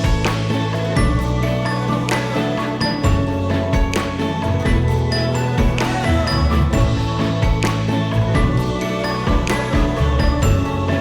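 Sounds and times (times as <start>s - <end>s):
bell-like tinkling melody: 0.0s - 11.0s
sustained background music: 0.0s - 11.0s.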